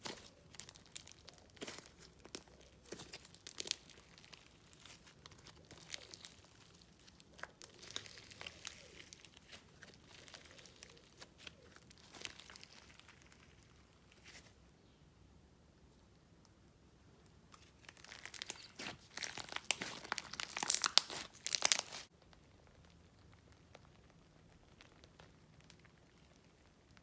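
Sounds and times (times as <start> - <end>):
slime crackling and popping: 0.0 - 14.6, 17.5 - 27.0
slime squished by hand: 0.0 - 14.6, 17.5 - 27.0.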